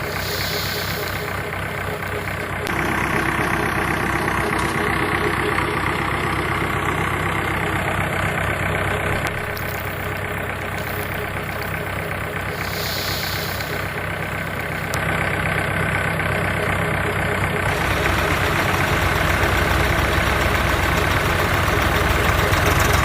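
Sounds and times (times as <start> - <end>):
tractor diesel engine: 0.0 - 23.0.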